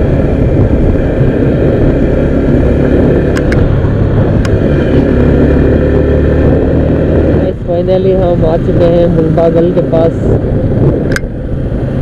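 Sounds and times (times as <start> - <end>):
motorcycle engine drone: 0.0 - 12.0
wind rushing on microphone: 0.0 - 12.0.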